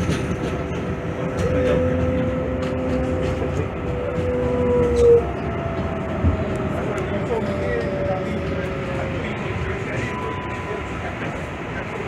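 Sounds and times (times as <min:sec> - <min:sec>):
subway train rumble: 0:00.0 - 0:12.0
train motor whine: 0:00.4 - 0:11.3.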